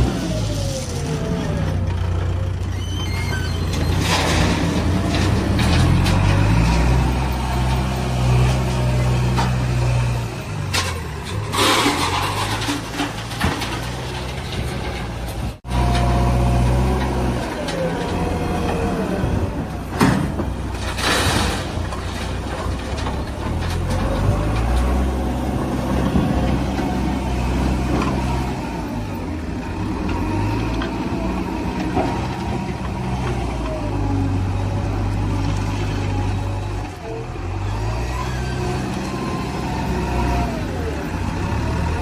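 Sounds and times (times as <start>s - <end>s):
backhoe loader diesel engine: 0.0s - 42.0s
tractor diesel engine: 0.0s - 42.0s.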